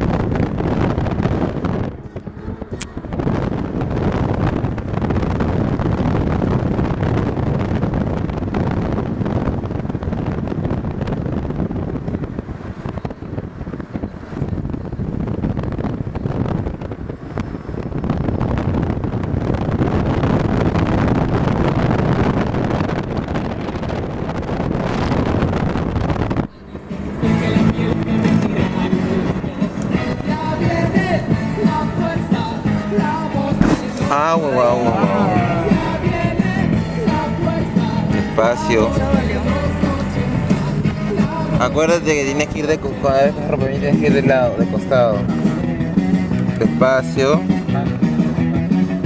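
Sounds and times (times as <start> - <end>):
vehicle road noise: 0.0 - 49.0
wind rushing over microphone: 0.0 - 49.0.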